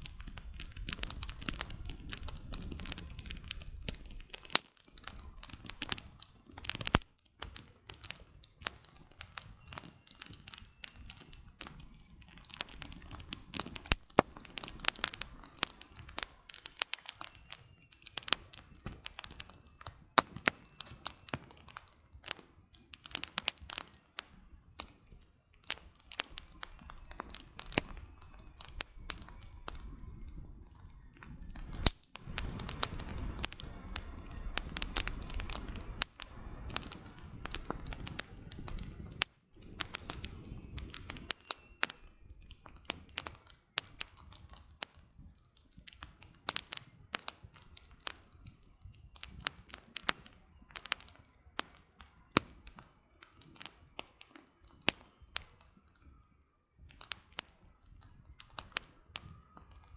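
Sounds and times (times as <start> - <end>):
low rush of flame: 0.0 - 51.8
campfire crackling and popping: 0.0 - 59.9.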